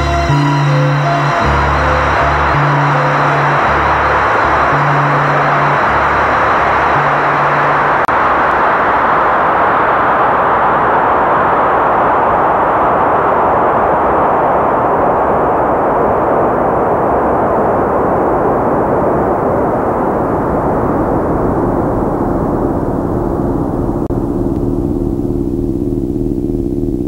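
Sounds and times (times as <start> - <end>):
experimental electronic noise wash: 0.0 - 27.0
low held tone: 0.0 - 27.0.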